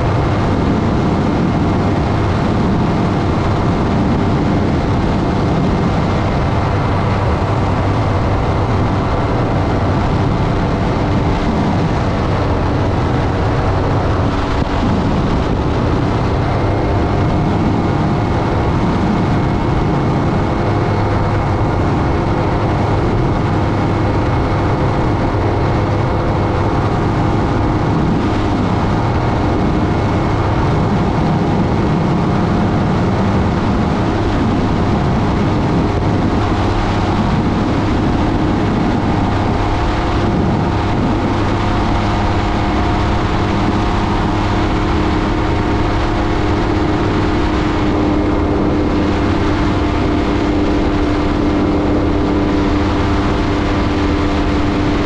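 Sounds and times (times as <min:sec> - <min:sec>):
aircraft engine drone: 0:00.0 - 0:55.0
wind rush: 0:00.0 - 0:55.0.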